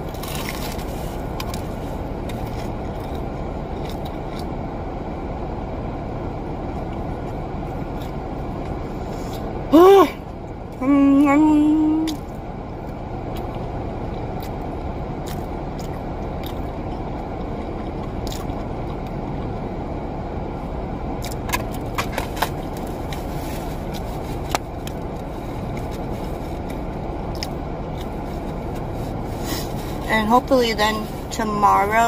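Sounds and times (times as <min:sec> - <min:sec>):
car air conditioning rushing: 0:00.0 - 0:32.0.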